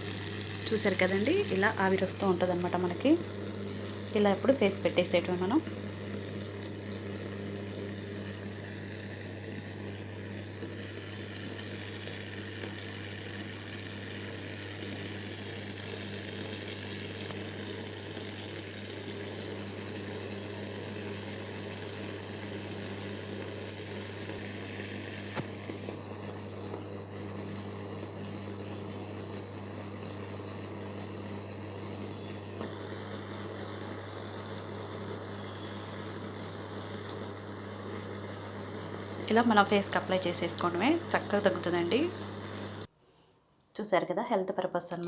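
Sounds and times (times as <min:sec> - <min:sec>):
steam vaporizer humming: 0:00.0 - 0:45.0.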